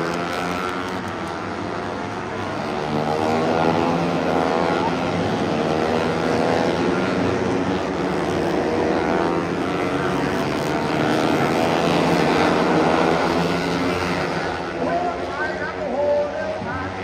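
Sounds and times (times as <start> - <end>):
motorbike engines racing past: 0.0 - 17.0.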